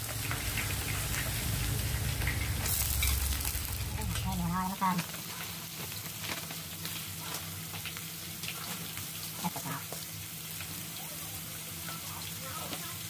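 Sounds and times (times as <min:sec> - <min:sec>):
snails sizzling in a pot: 0:00.0 - 0:13.0.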